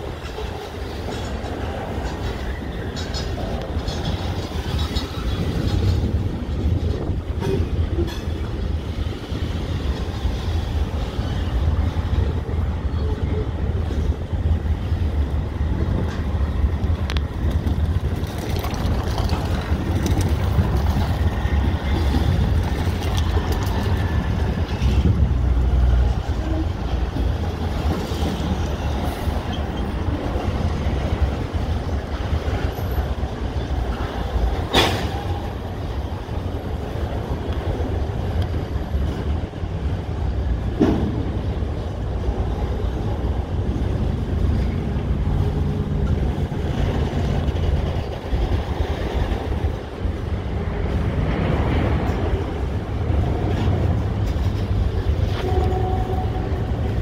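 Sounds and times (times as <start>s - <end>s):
freight train cars rolling: 0.0s - 57.0s.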